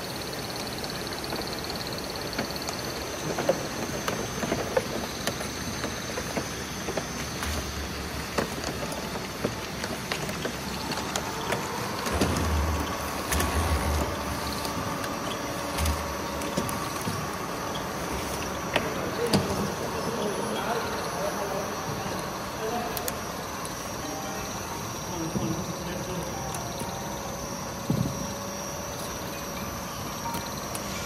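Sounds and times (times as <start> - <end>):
machine hum: 0.0 - 31.0
steady whine: 0.0 - 31.0.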